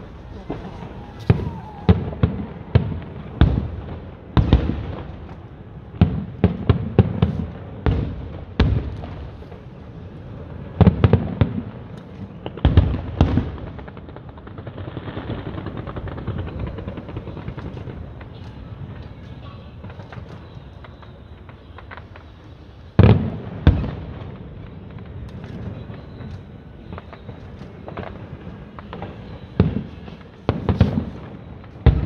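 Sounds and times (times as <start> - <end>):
fireworks bursting with bangs: 0.0 - 32.0
fireworks crackling: 0.0 - 32.0.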